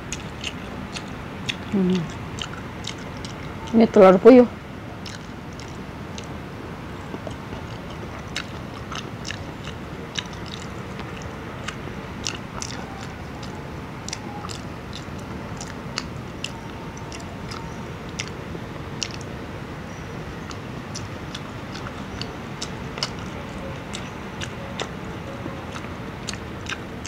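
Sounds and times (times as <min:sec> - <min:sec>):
chewing with wet clicks: 0:00.0 - 0:04.2, 0:05.0 - 0:06.4, 0:07.0 - 0:27.0
low background hum: 0:00.0 - 0:27.0
lip smacks: 0:00.1 - 0:03.8, 0:05.0 - 0:06.4, 0:07.0 - 0:18.4, 0:19.0 - 0:19.3, 0:20.4 - 0:27.0.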